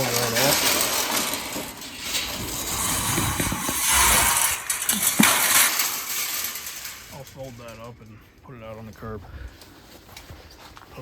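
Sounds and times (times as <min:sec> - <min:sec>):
sheet metal clinking and rattling: 0:00.0 - 0:09.0.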